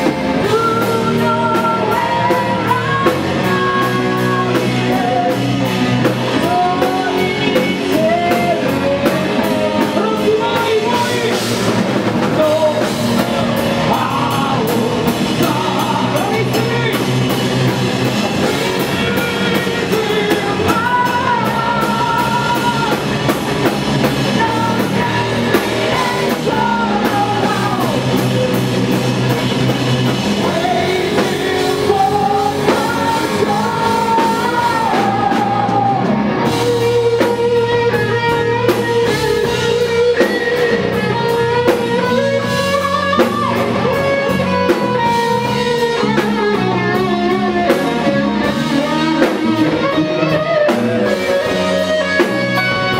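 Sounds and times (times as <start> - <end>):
drum kit: 0.0 - 52.9
electric guitar: 0.0 - 52.9.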